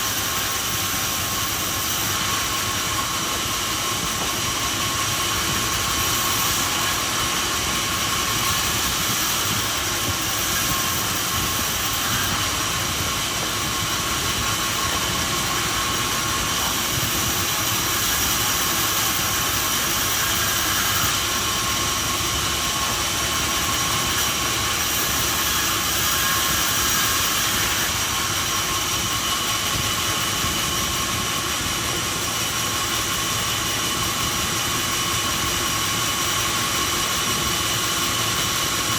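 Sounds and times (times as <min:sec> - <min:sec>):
sawmill machinery hiss: 0:00.0 - 0:38.9.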